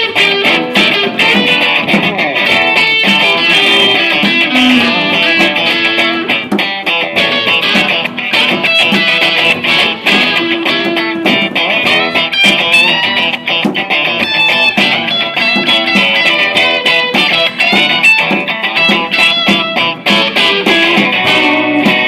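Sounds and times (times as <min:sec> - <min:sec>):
live band with guitar: 0:00.0 - 0:22.0.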